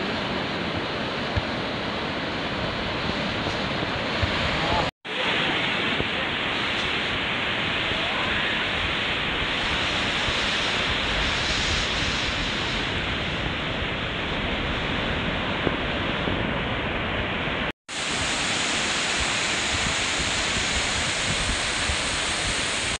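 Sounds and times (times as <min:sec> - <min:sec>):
wind on microphone: 0:00.0 - 0:04.9, 0:05.5 - 0:23.0
surf breaking on beach: 0:00.0 - 0:23.0.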